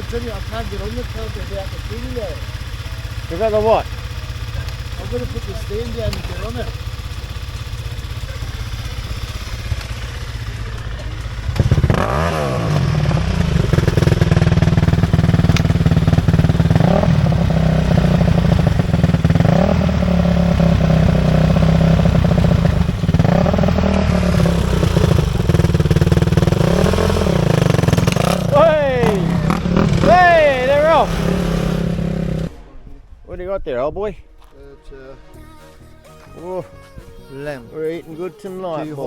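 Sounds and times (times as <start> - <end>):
dirt bike engine revving: 0.0 - 32.8.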